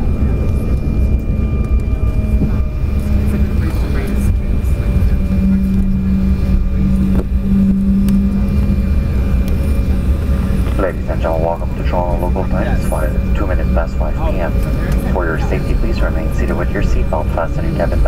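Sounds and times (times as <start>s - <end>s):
jet engines and wheels rumbling: 0.0s - 18.0s.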